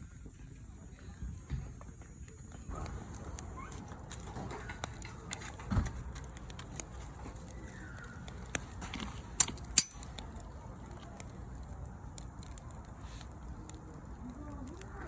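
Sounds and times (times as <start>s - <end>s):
firewood crackling and popping: 0.1s - 15.0s.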